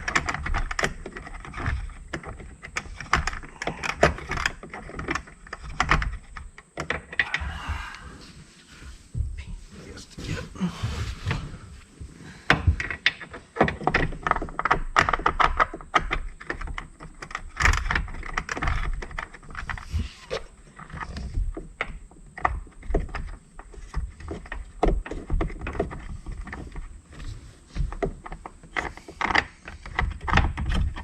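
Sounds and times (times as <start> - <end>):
hardware knobs clicking and rattling: 0.0 - 7.4, 12.5 - 31.0.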